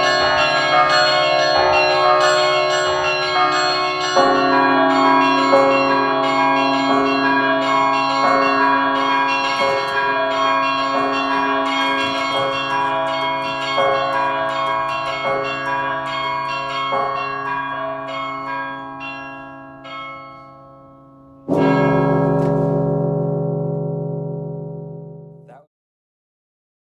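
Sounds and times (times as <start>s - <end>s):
carillon bells playing melody: 0.0s - 24.7s
deep bell chord: 0.0s - 25.5s.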